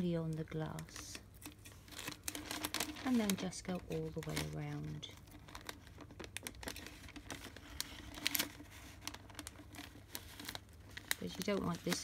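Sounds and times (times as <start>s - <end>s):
baking paper crinkling: 0.0s - 12.0s.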